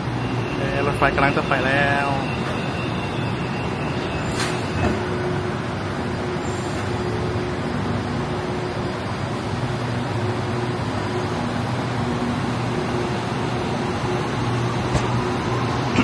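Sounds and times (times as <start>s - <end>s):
vehicles humming: 0.0s - 16.0s.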